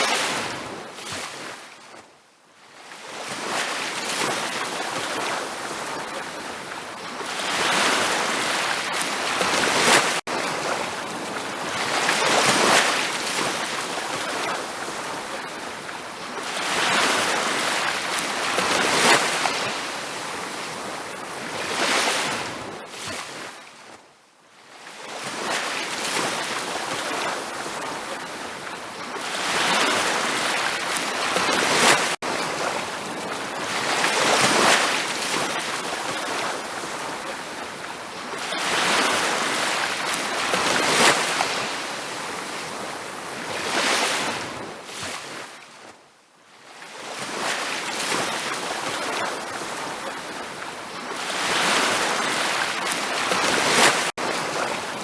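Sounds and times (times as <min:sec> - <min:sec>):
ocean waves washing onto beach: 0:00.0 - 0:02.0, 0:02.6 - 0:23.9, 0:24.7 - 0:45.9, 0:46.7 - 0:55.0.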